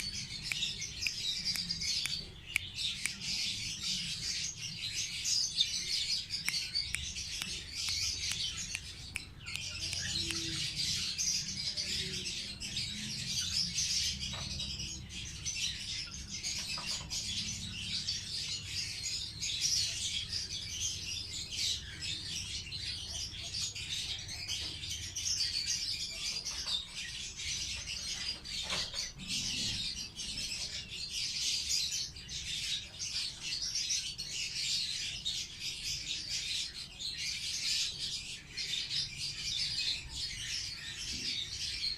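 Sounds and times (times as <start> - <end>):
lovebirds chirping: 0.0 - 41.9.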